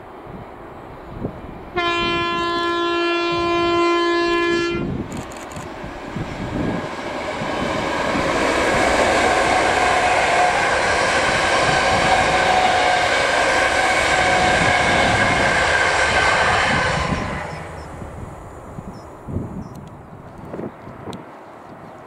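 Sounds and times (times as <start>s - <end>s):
train wheels rushing on rails: 0.0s - 22.0s
train whine: 0.0s - 22.0s.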